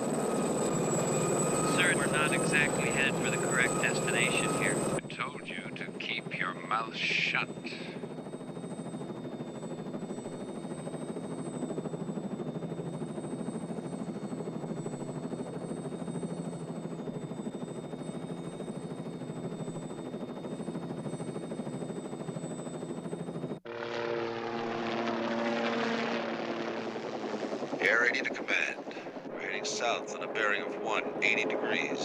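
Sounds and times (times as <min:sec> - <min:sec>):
helicopter rotor chop: 0:00.0 - 0:32.0
high turbine whine: 0:00.0 - 0:32.0.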